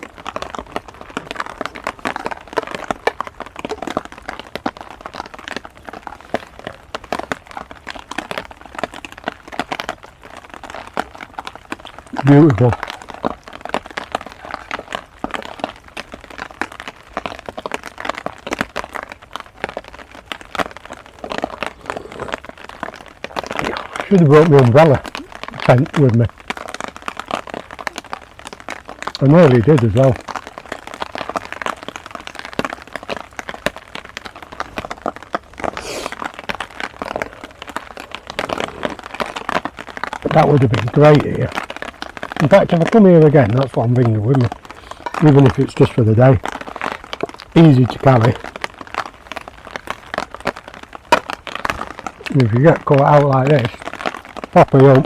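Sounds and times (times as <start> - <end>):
heavy rain: 0.0 - 55.0
raindrops tapping on a surface: 0.0 - 55.0.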